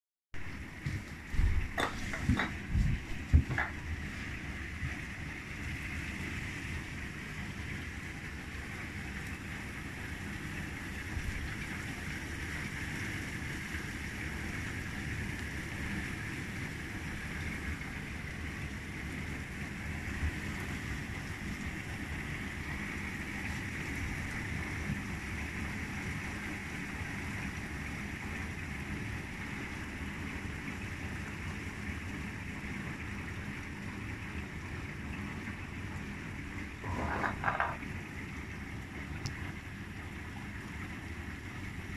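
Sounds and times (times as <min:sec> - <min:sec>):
heavy rain on street: 0:03.4 - 0:37.2.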